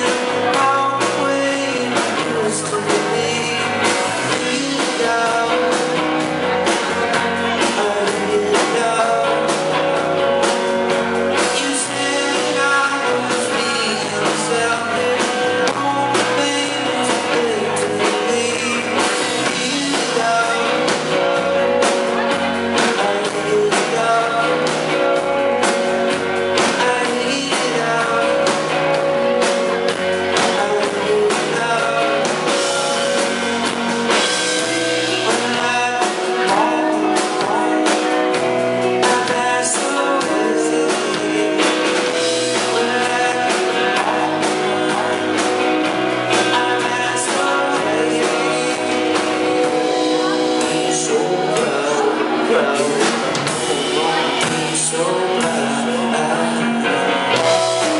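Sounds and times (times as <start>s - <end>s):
lead vocal singing: 0.0s - 57.9s
rock band playing live: 0.0s - 57.9s.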